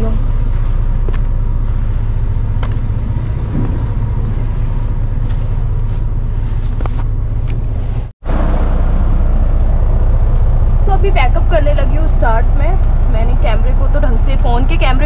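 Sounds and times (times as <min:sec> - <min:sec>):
truck diesel engine idling: 0:00.0 - 0:07.7, 0:08.3 - 0:15.0.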